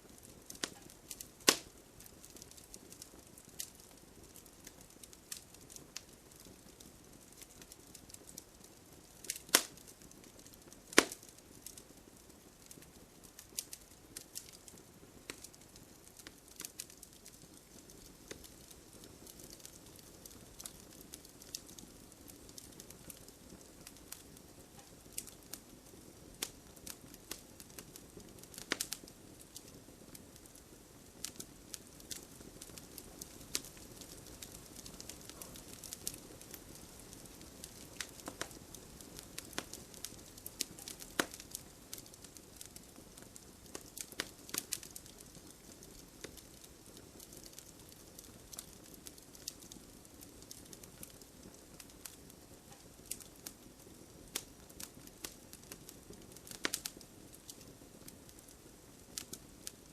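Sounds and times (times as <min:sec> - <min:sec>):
low rumble of burning: 0:00.0 - 0:59.9
wood fire crackling: 0:00.0 - 0:59.9.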